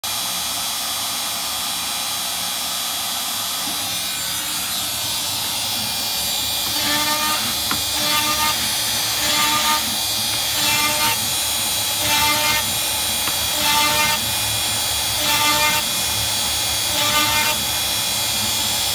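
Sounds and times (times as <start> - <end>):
pitched whine of bit cutting: 0.1 - 18.9
router spindle spinning: 0.1 - 18.9.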